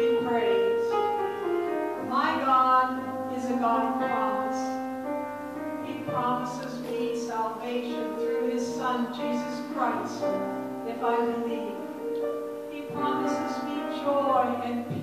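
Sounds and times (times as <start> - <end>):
held keyboard chords: 0.0 - 15.0.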